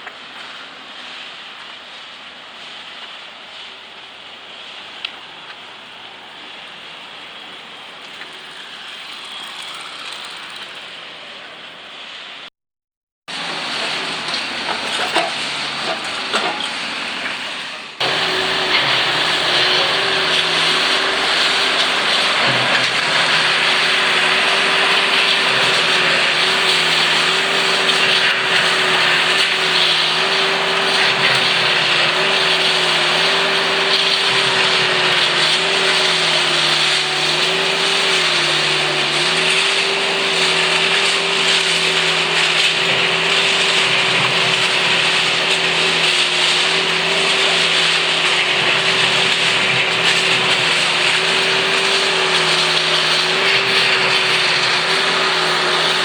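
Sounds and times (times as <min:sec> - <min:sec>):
railway track machinery running: 0:00.0 - 0:12.4, 0:13.3 - 0:56.0.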